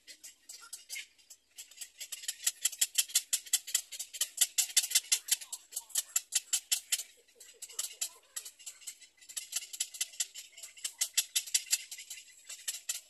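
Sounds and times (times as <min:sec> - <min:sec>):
birds clicking chatter: 0:00.0 - 0:13.0.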